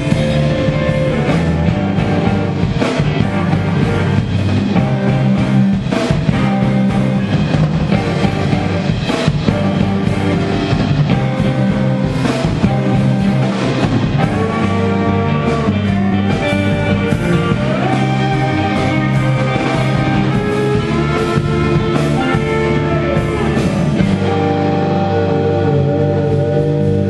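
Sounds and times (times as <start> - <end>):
drum kit: 0.0 - 27.0
electric bass: 0.0 - 27.0
electric guitars: 0.0 - 27.0.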